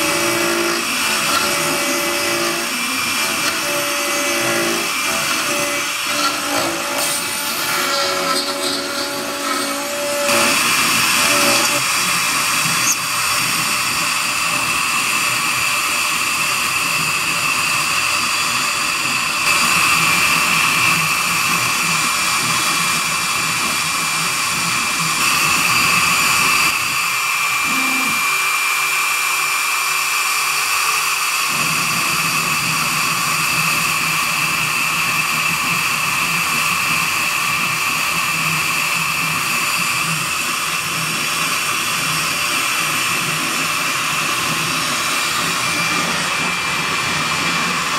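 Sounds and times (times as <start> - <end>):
bit cutting wood: 0.0 - 47.9
router spindle whining: 0.0 - 47.9.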